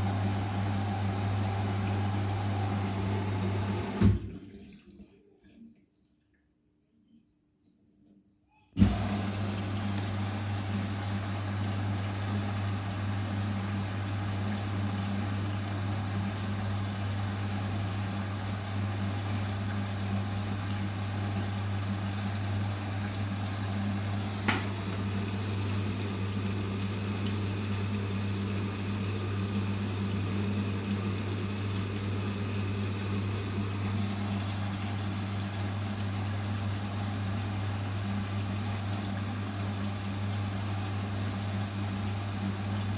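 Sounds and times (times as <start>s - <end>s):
washing machine running: 0.0s - 5.2s, 8.8s - 42.9s
water noise: 0.0s - 6.3s, 8.8s - 42.9s.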